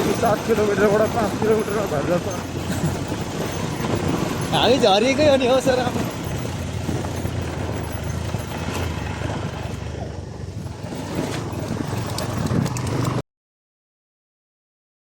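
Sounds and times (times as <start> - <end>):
motorcycle engine rumble: 0.0 - 13.2
wind rushing over microphone: 0.0 - 13.2.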